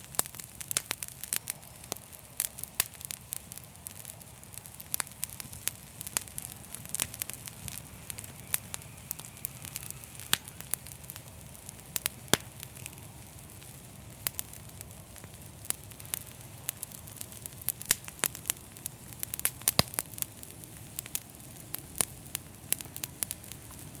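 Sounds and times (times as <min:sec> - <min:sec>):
flames hissing and rumbling: 0:00.0 - 0:24.0
wood crackling and popping: 0:00.0 - 0:24.0.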